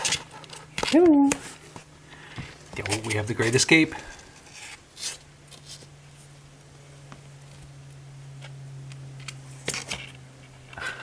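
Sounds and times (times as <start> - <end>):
kittens scratching in a box: 0.0 - 6.3, 8.3 - 10.9
steady low hum: 0.0 - 11.0.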